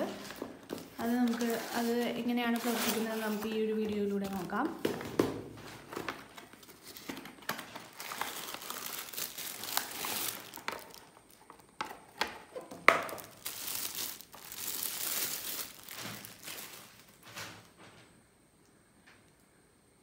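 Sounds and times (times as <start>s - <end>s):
plastic packaging crinkling: 0.0s - 17.5s.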